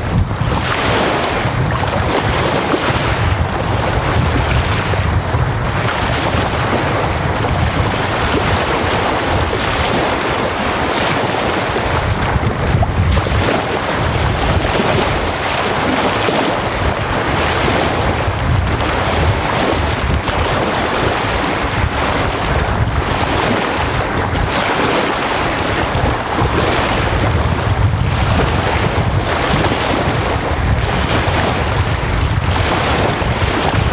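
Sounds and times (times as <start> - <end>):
small waves washing on shore: 0.0 - 33.9
wind buffeting microphone: 0.0 - 33.9.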